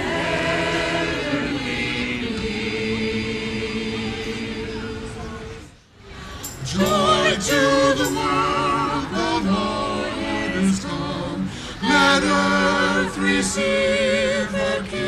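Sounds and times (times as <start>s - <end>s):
a cappella quartet singing: 0.0s - 5.7s, 6.4s - 15.0s.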